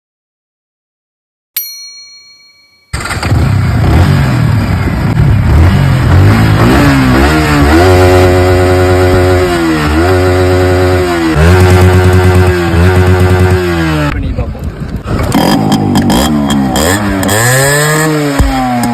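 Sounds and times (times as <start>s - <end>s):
motorcycle engine revving: 3.0s - 18.9s.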